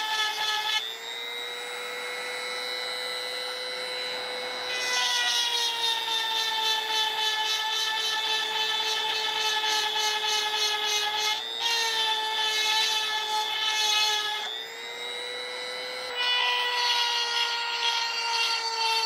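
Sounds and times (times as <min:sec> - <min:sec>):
rotary tool motor whining: 0:00.0 - 0:19.0.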